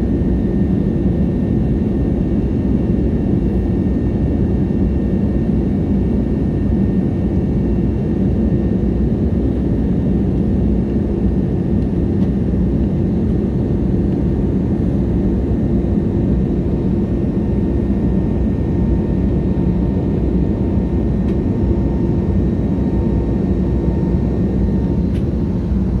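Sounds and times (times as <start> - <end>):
aircraft engine drone: 0.0 - 26.0.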